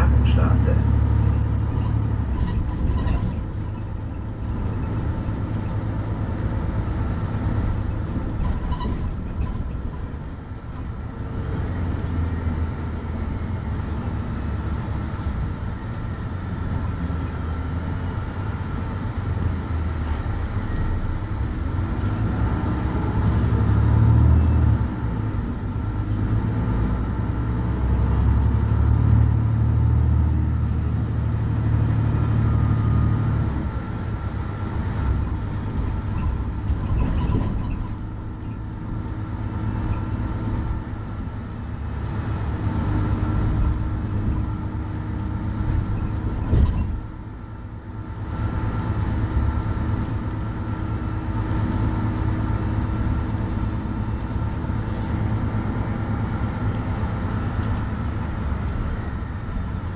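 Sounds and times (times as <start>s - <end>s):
diesel bus engine idling: 0.0s - 59.9s.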